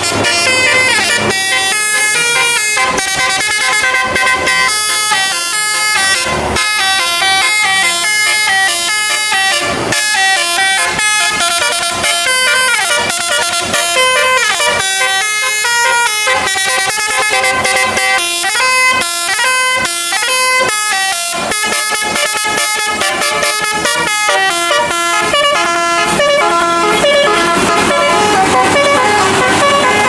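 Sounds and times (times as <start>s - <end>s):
multi-tone bus air horns: 0.0s - 30.0s.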